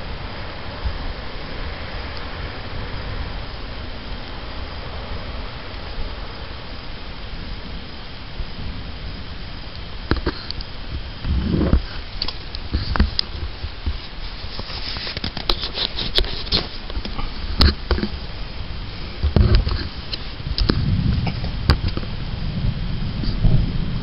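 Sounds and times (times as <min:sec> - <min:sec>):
thunder rumbles: 0:00.0 - 0:15.6, 0:16.2 - 0:24.0
raindrops tapping: 0:00.0 - 0:22.2
rain falling: 0:00.0 - 0:24.0.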